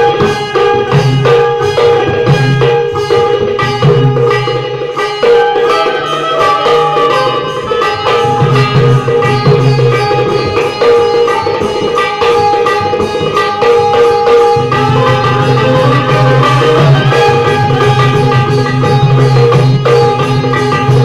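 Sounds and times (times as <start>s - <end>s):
fast hand drumming: 0.0s - 21.0s
plucked banjo melody: 0.0s - 21.0s.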